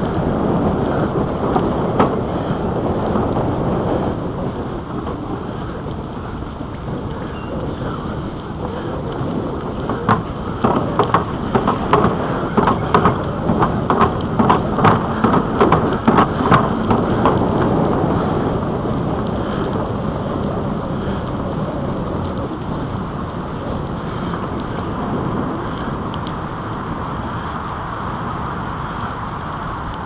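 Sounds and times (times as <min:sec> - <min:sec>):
bike clicks and rattles: 0:00.0 - 0:26.7
bicycle rolling noise: 0:00.0 - 0:30.0
wind: 0:00.0 - 0:30.0.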